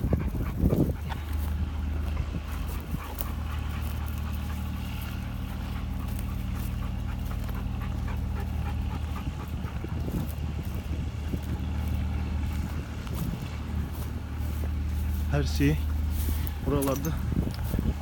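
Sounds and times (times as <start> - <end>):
dog panting: 0.0 - 18.0
generator engine humming: 0.0 - 18.0.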